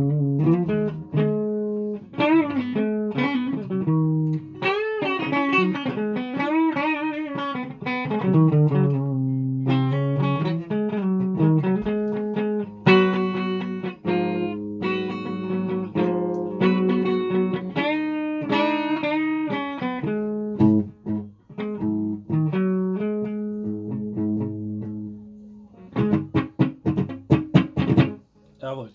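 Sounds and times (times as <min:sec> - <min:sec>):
guitar playing: 0:00.0 - 0:28.8.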